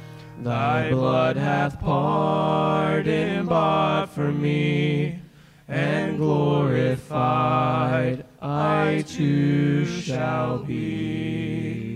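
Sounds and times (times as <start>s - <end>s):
male trio singing a hymn: 0.3s - 11.9s.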